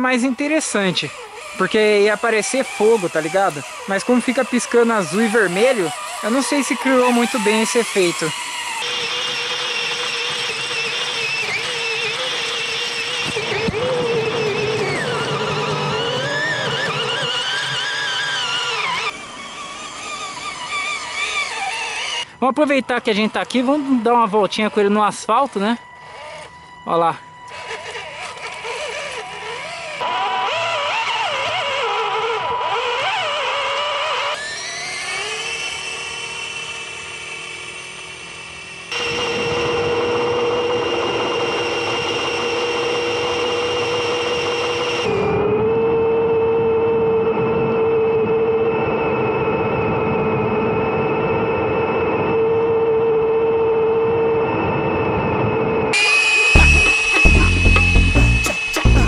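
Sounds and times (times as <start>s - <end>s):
electric motors and gearbox whining: 0.0s - 59.0s.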